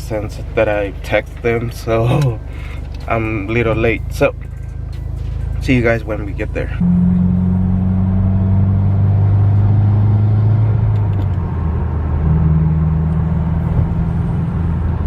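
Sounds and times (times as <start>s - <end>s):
car engine running inside cabin: 0.0s - 15.0s.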